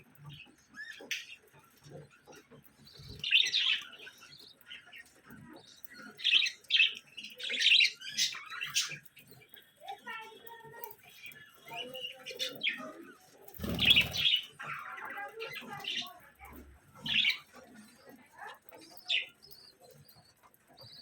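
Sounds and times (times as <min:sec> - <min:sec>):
budgerigars chirping and chattering: 0:00.0 - 0:21.0.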